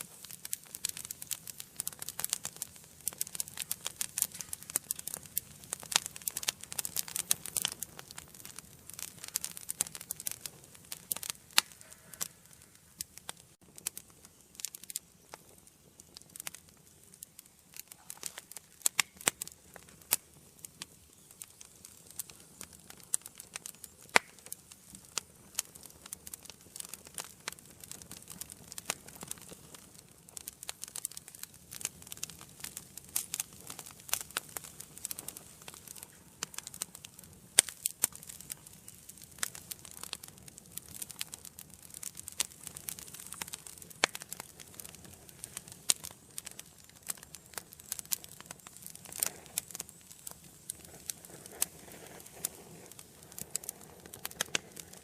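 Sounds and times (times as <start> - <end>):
low rush of flame: 0.0 - 55.0
wood fire crackling and popping: 0.0 - 55.0.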